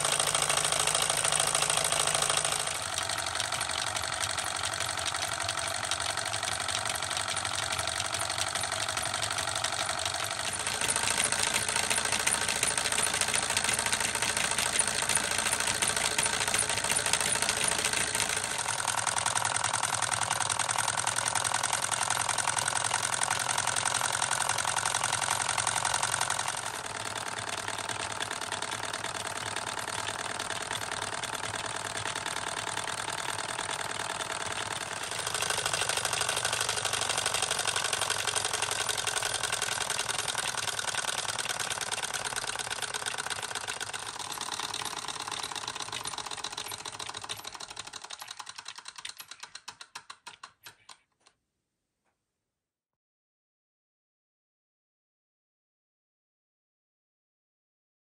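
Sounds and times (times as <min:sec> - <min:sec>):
toy engine mechanical clatter: 0:00.0 - 0:51.3.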